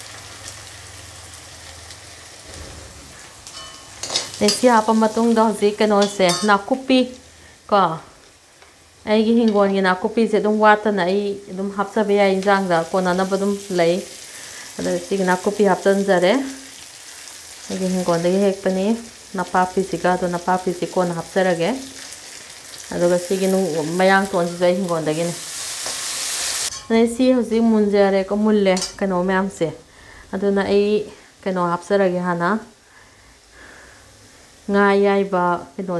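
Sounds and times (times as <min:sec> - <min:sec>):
vegetables sizzling in hot oil: 0:00.0 - 0:35.9.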